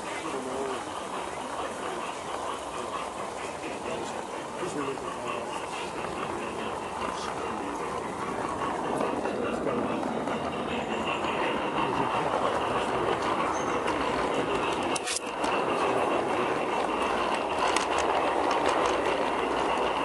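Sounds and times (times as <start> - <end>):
thin steady whine: 0.0 - 20.0
wheels rumbling on rail: 0.0 - 20.0.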